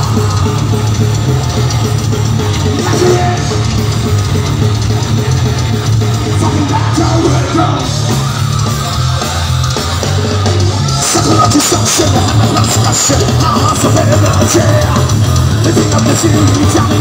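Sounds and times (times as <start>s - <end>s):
distorted electric guitars: 0.0s - 17.0s
drum kit: 0.0s - 17.0s.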